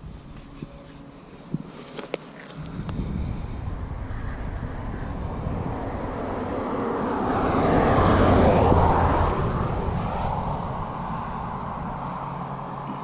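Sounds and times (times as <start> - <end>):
vehicle passing by: 2.6 - 13.0.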